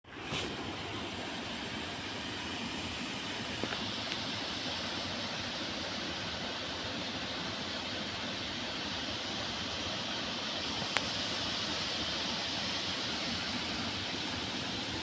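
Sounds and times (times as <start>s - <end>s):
waterfall rushing: 0.1s - 15.0s.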